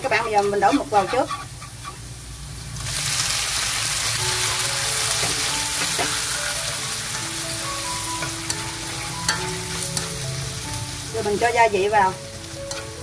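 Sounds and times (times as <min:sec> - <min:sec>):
squid sizzling in hot oil: 0:00.0 - 0:13.0.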